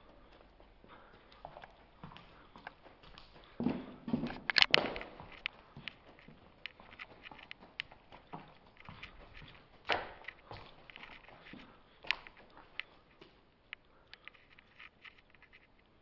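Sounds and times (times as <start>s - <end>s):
footsteps on gritty concrete: 0.0s - 13.4s.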